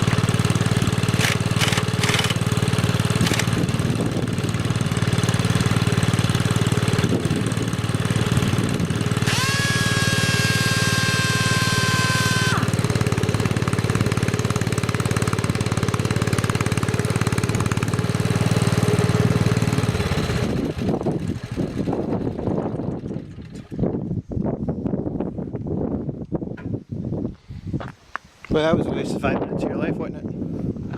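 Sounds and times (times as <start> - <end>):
garden tractor engine running: 0.0 - 25.0.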